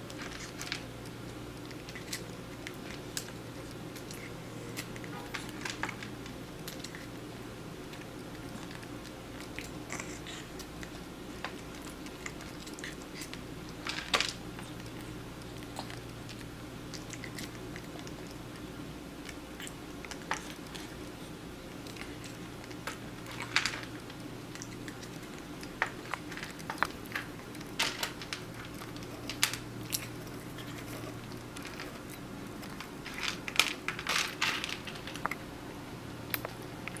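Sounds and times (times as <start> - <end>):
kitten chewing: 0.0 - 37.0
steady low hum: 0.0 - 37.0.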